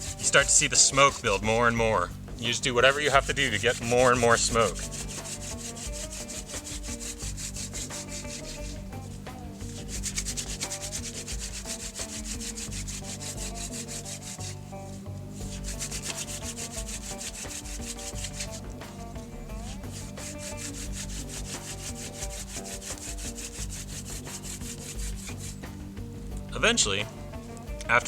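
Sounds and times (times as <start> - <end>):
wooden spindle grinding on board: 0.0 - 28.0.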